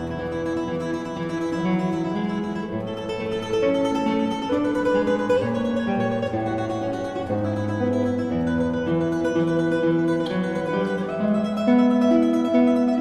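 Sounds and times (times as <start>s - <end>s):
solo classical guitar: 0.0s - 13.0s.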